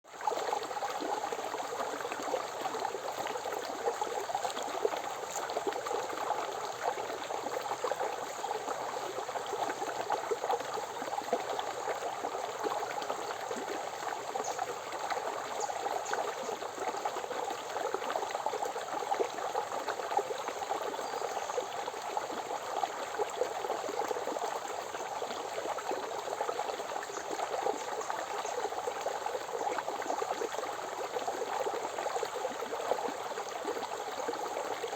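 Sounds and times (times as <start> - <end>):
river water babbling over stones: 0.1 - 34.9.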